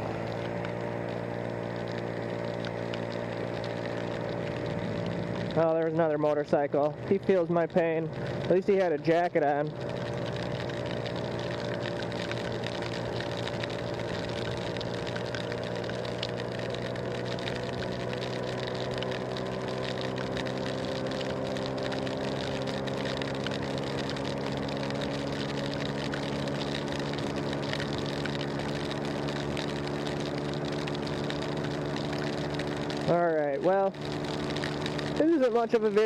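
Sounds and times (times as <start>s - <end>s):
motor scooter engine running: 0.0s - 5.7s, 9.5s - 36.0s
wind and rain on microphone: 0.0s - 36.0s.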